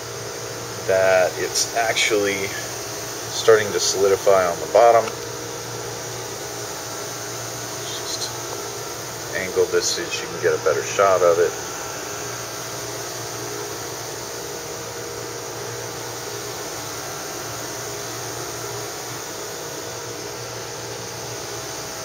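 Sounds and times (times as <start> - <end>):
faint mains hum: 0.0 - 22.0.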